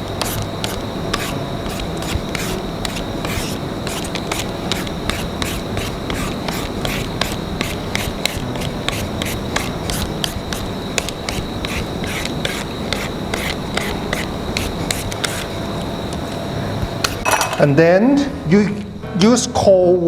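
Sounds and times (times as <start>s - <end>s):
vegetable peeler scraping papaya: 0.0s - 16.3s.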